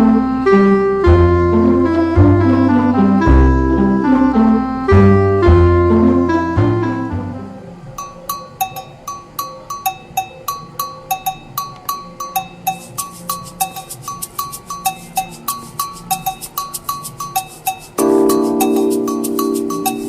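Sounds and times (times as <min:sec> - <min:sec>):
soft sustained backing: 0:00.0 - 0:20.0
bouncy tuned knocks music: 0:01.1 - 0:03.8, 0:04.4 - 0:07.3, 0:08.0 - 0:20.0.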